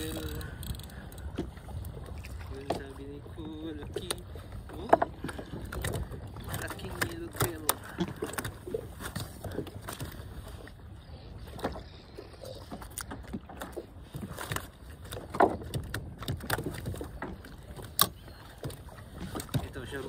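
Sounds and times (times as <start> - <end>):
boat rumble: 0.0 - 20.0.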